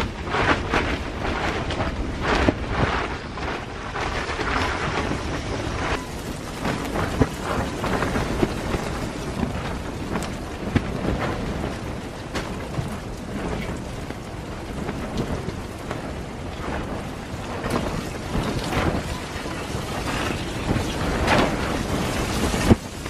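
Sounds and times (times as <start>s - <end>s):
tent fabric flapping: 0.0s - 23.0s
wind rumbling: 0.0s - 23.0s.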